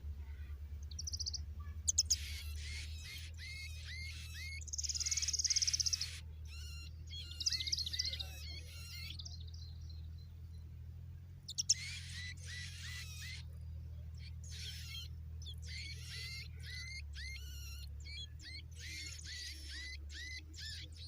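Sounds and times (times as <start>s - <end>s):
small birds chirping: 0.0s - 21.0s
steady low hum: 0.0s - 21.0s
fast high bird trill: 0.8s - 9.3s, 11.5s - 13.4s, 14.2s - 21.0s.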